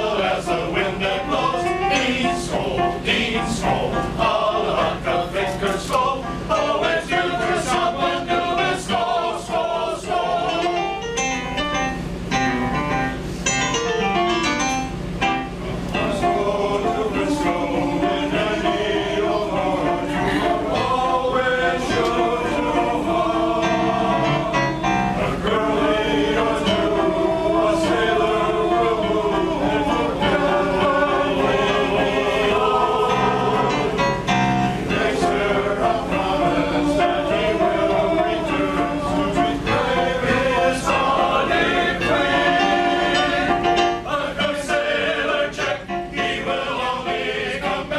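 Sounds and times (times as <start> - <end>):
male chorus singing: 0.0 - 11.0, 15.9 - 47.9.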